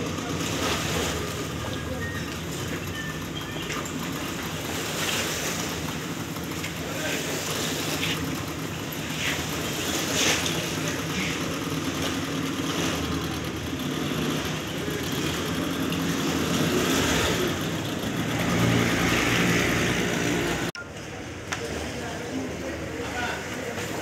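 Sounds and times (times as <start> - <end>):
outboard motors humming: 0.0 - 24.0.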